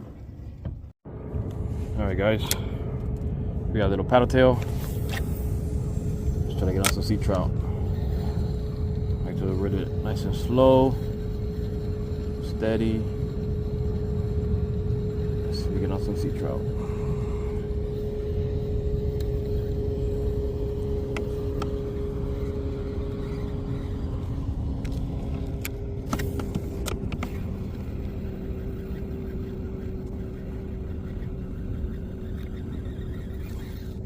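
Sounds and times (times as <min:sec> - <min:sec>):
motor droning: 0:00.0 - 0:34.0.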